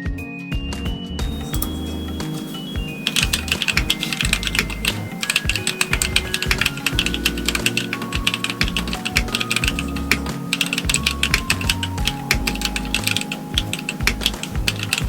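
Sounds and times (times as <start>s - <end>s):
soft background music: 0.0s - 15.0s
mechanical keyboard typing: 1.6s - 15.0s.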